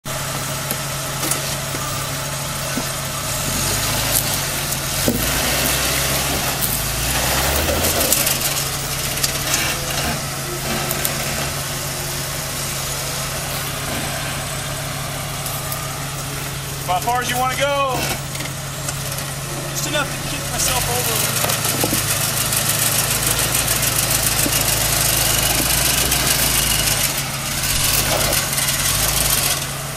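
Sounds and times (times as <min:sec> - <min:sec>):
car engine running at low revs: 0:00.0 - 0:29.9.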